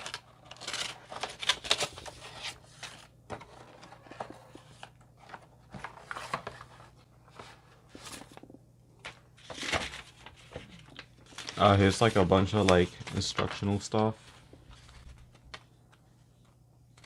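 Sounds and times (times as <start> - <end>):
cardboard and paper rustling: 0.0 - 16.0.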